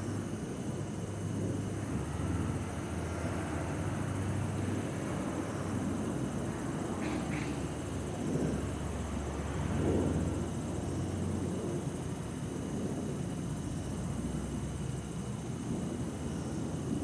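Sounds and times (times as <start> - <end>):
distant traffic rumble: 0.0 - 17.0
droning hum: 0.0 - 17.0
insects chirring: 0.0 - 17.0.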